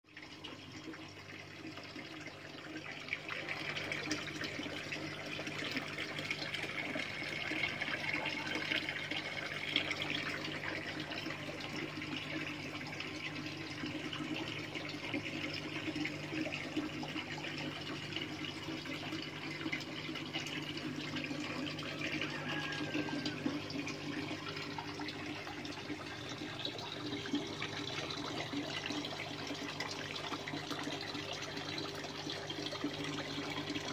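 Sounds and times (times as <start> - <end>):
trickling water: 0.0 - 33.9.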